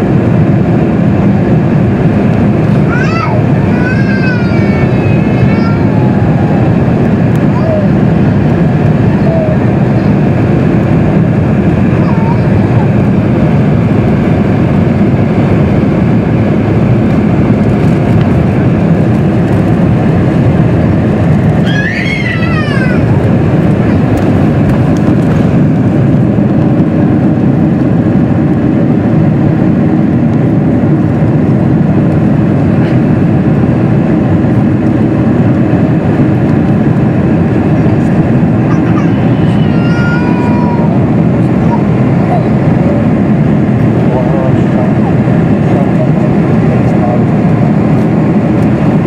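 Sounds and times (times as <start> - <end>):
jet engines rumbling: 0.0 - 49.0.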